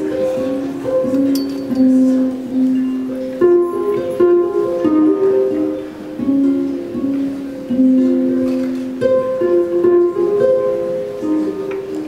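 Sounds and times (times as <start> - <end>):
harp notes plucked: 0.0 - 12.0.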